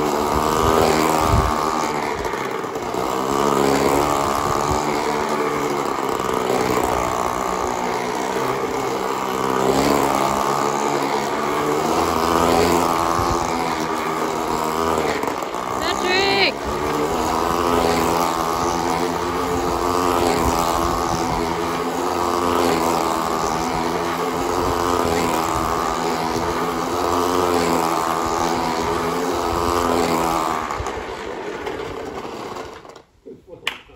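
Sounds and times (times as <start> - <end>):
model two-stroke engine running: 0.0 - 33.2.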